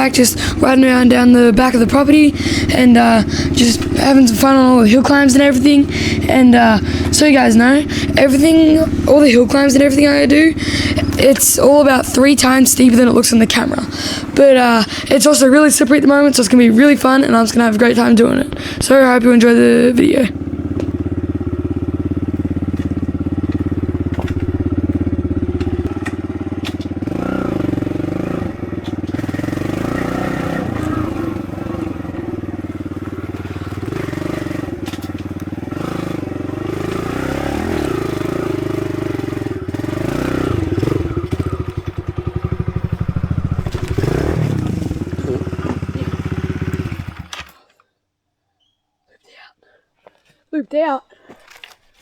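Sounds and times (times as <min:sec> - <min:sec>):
dirt bike engine revving: 0:00.0 - 0:47.6.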